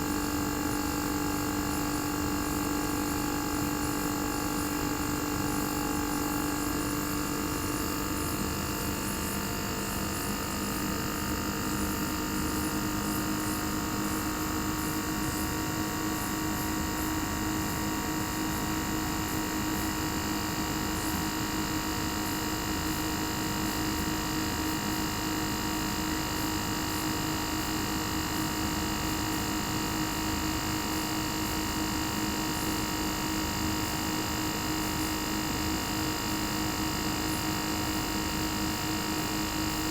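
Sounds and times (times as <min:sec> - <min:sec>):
air conditioner compressor hum: 0:00.0 - 0:39.9.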